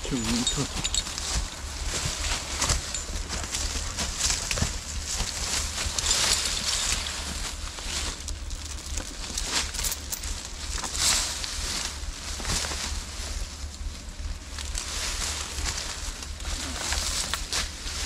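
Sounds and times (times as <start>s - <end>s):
footsteps through dry leaves: 0.0s - 18.0s.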